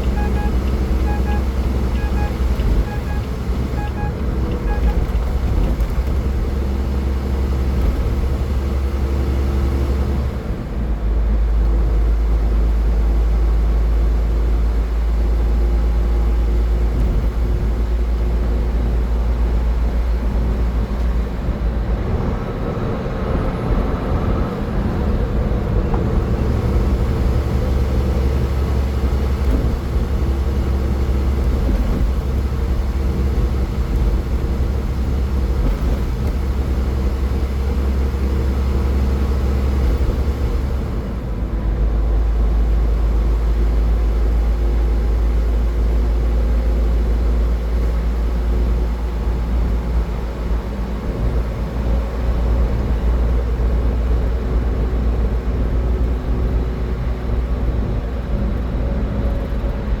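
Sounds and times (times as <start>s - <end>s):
car driving at highway speed: 0.0s - 60.0s.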